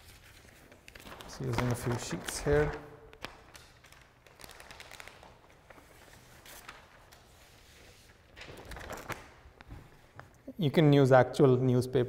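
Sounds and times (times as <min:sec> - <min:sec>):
newspaper rustling: 0:00.0 - 0:10.3.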